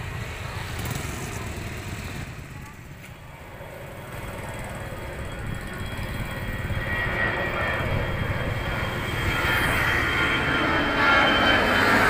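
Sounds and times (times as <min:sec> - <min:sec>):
jet engines rumbling with whine: 0:00.0 - 0:12.0.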